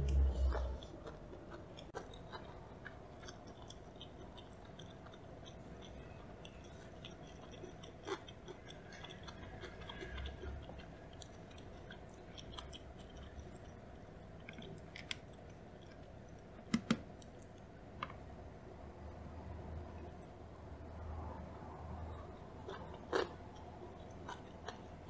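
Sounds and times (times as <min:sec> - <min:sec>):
chewing food: 0:00.0 - 0:17.8, 0:21.6 - 0:25.0.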